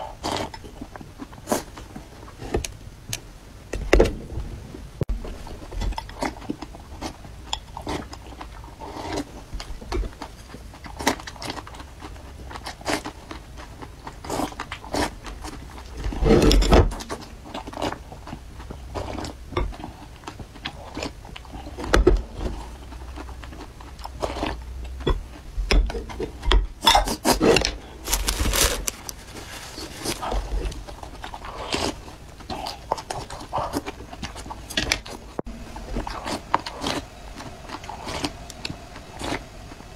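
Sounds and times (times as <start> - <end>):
chewing: 5.3 - 39.4.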